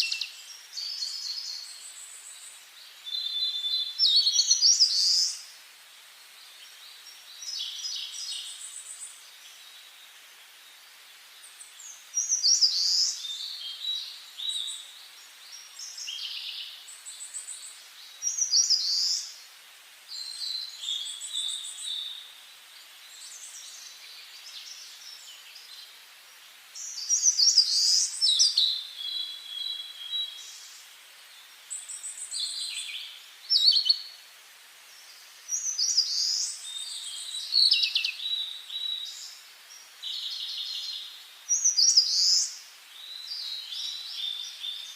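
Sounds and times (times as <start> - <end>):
faint steady hiss: 0.0 - 44.9
songbirds singing: 0.0 - 44.9.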